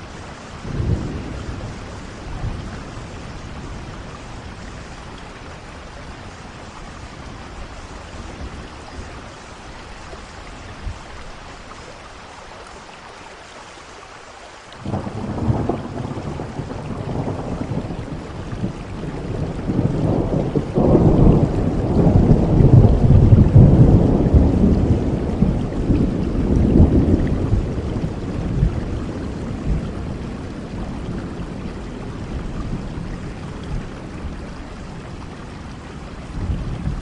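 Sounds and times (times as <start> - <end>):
thunder rumbling: 0.0 - 9.5, 14.8 - 37.0
steady rain: 0.0 - 37.0.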